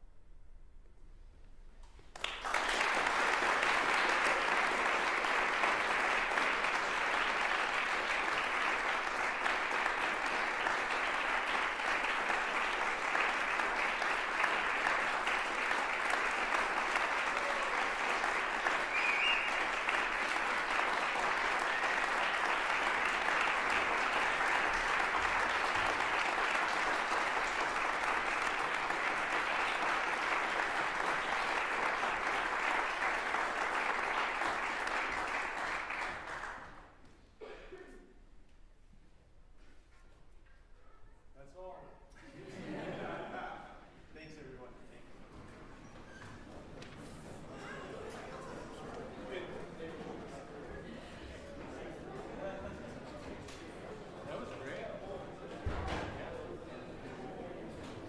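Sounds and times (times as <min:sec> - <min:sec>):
audience applause: 0:02.1 - 0:37.0, 0:46.2 - 0:58.0.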